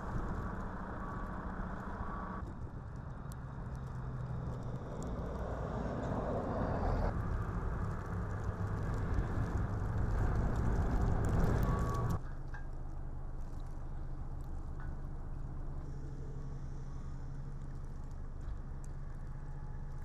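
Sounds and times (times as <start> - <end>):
heavy vehicle engine hum: 0.0 - 20.0
road noise: 0.0 - 20.0.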